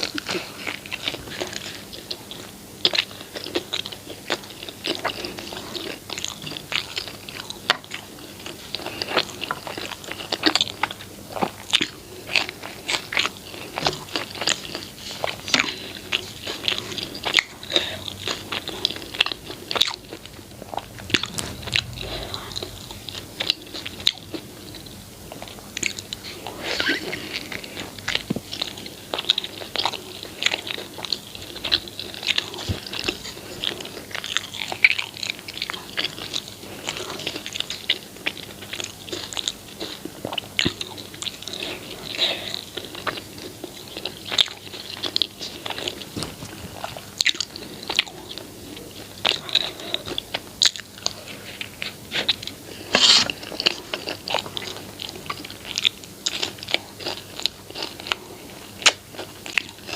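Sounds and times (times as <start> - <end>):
chewing food crunches: 0.0 - 59.9.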